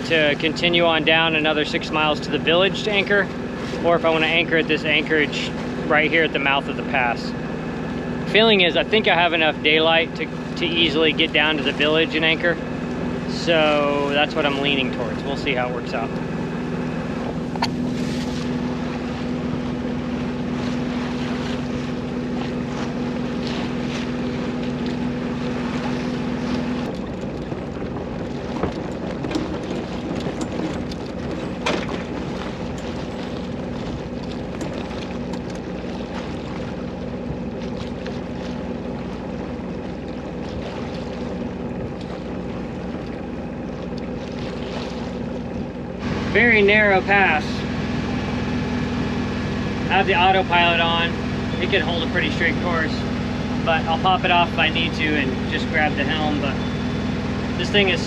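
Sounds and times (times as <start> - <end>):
boat engine running: 0.0 - 58.0
water wash: 0.0 - 58.0.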